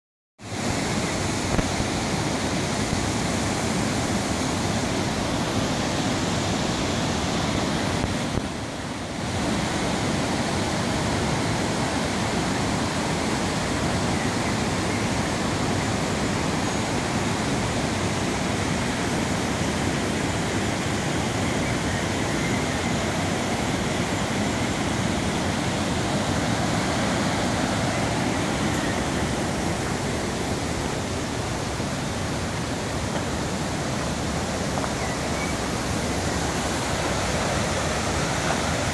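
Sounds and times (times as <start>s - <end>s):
river water rushing over rocks: 0.4s - 38.9s.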